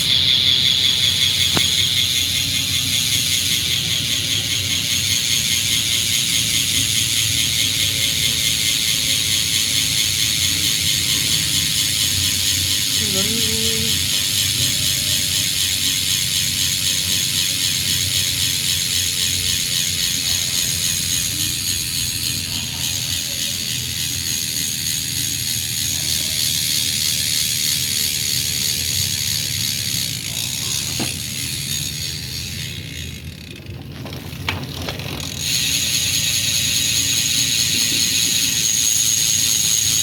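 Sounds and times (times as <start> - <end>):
bicycle freehub ratcheting: 0.0 - 40.0.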